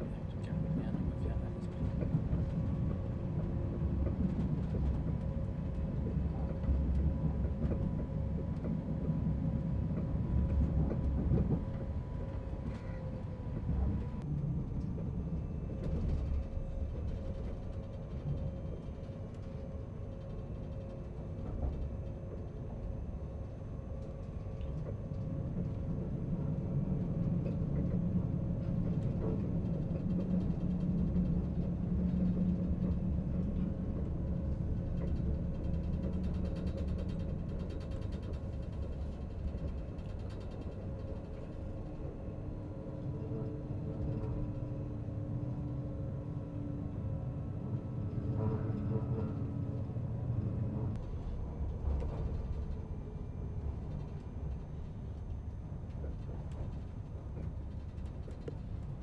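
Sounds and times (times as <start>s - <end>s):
constant hum: 0.0s - 59.0s
train rumble from inside car: 0.0s - 59.0s.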